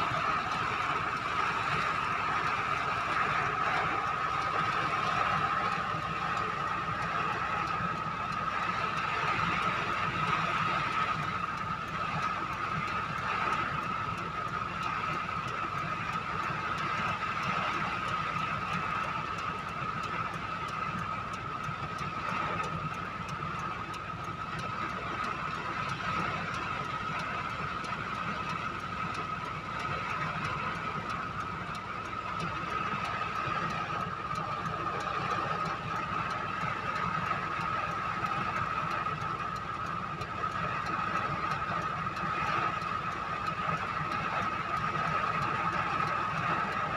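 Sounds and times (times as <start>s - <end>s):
vehicle engine drone: 0.0s - 46.9s.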